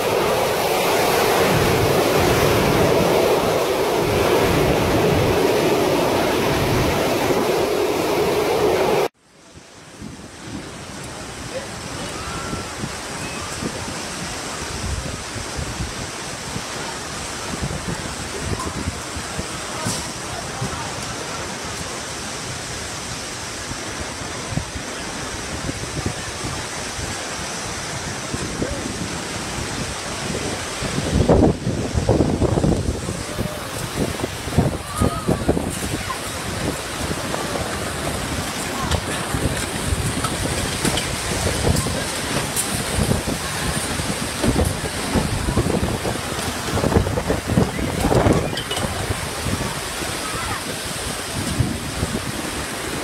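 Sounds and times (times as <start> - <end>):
heavy wind-driven rain: 0.0 - 53.0
strong storm wind: 0.0 - 53.0
wind gusts buffeting microphone: 0.0 - 53.0.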